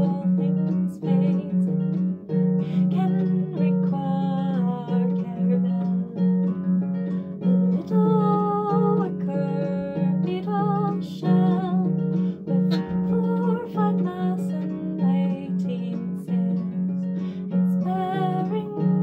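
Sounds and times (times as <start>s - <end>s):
woman singing with vibrato: 0.0s - 1.8s, 2.7s - 6.2s, 7.7s - 19.0s
harp plucked notes: 0.0s - 19.0s.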